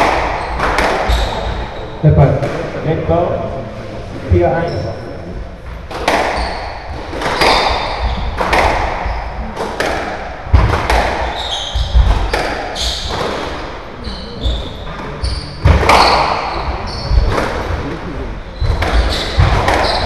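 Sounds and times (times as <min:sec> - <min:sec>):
squash ball impacts echoing: 0:00.0 - 0:03.3, 0:05.3 - 0:20.0
shoes squeaking on wooden floor: 0:00.2 - 0:02.2, 0:04.2 - 0:09.6, 0:11.2 - 0:20.0.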